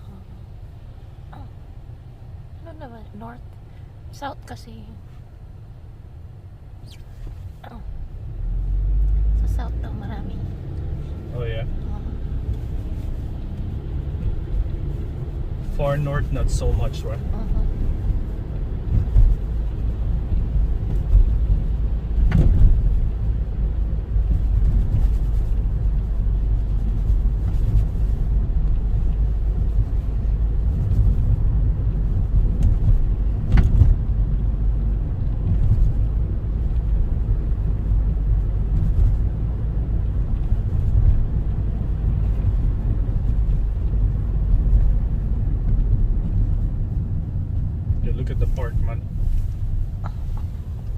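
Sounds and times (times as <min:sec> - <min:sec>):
car cabin road rumble: 0:00.0 - 0:50.9.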